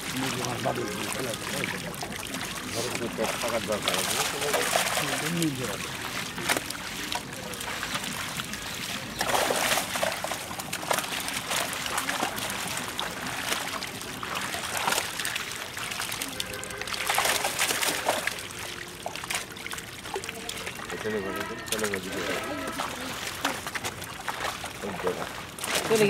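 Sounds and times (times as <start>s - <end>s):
fish thrashing and splashing: 0.0s - 26.0s
water trickling and sloshing: 0.0s - 26.0s.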